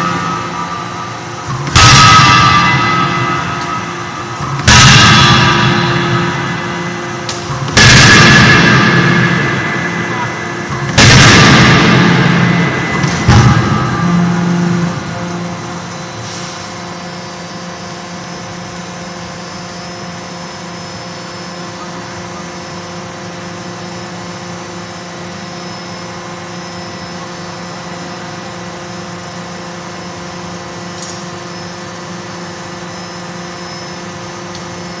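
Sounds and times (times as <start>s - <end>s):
hydraulic machinery humming: 0.0s - 35.0s.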